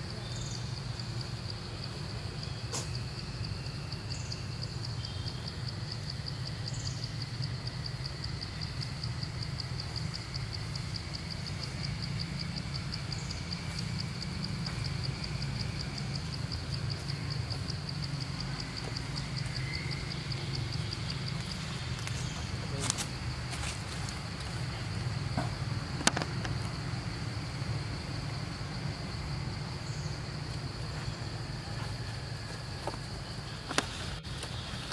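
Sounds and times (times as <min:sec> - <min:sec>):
insect chirping: 0:00.0 - 0:34.9.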